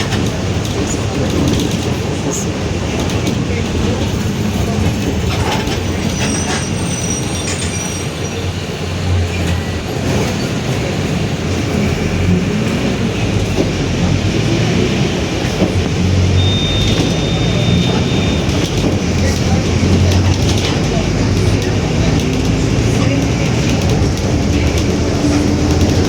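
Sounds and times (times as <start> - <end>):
bus diesel engine rumble: 0.0 - 26.0.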